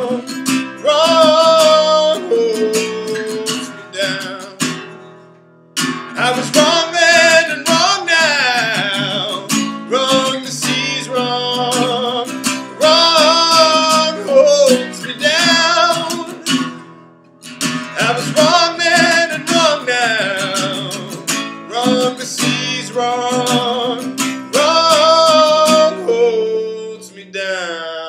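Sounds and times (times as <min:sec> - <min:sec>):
man singing: 0:00.0 - 0:04.9, 0:06.1 - 0:16.8, 0:17.8 - 0:28.0
strummed acoustic guitar: 0:00.0 - 0:28.0.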